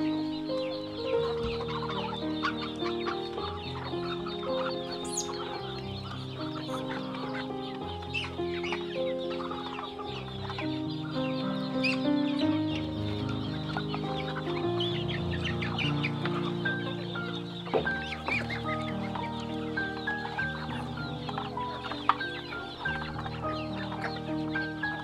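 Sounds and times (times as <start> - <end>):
background music with held notes: 0.0 - 25.0
chickens clucking: 0.0 - 25.0.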